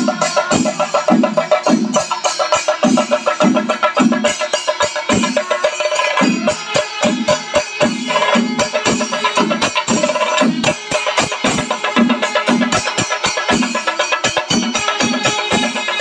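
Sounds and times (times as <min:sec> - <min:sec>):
drums beaten with sticks: 0:00.0 - 0:16.0.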